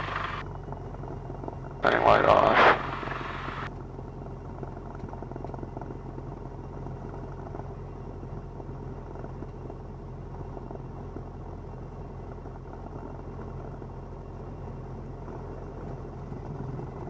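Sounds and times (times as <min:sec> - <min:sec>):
plane engine idling: 0:00.0 - 0:17.0.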